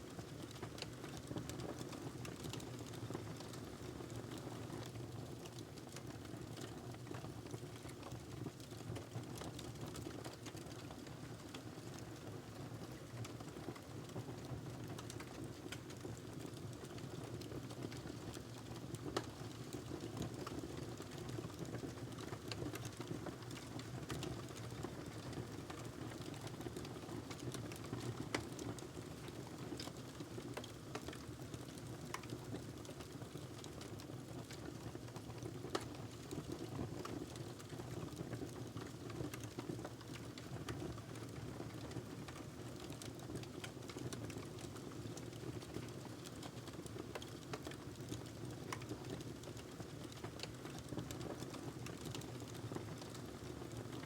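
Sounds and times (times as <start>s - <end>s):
fire crackling and popping: 0.1s - 54.0s.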